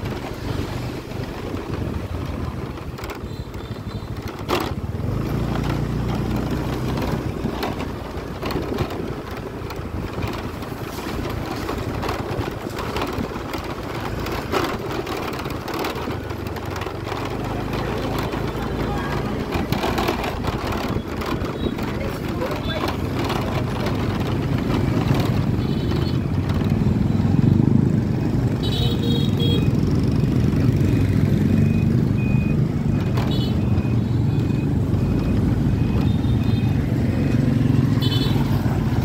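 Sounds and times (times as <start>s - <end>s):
scooter engine hum: 0.0s - 39.0s
street noise: 0.0s - 39.0s.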